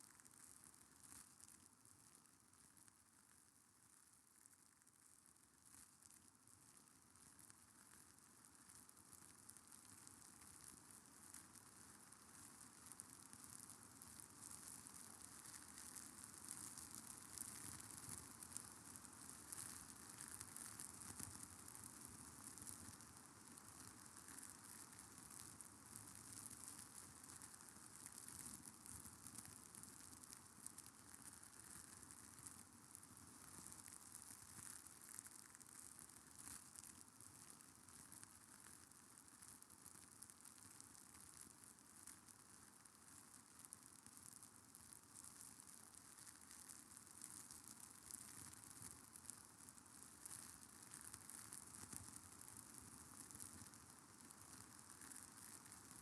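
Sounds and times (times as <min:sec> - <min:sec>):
faint crackling hiss: 0:00.0 - 0:56.0.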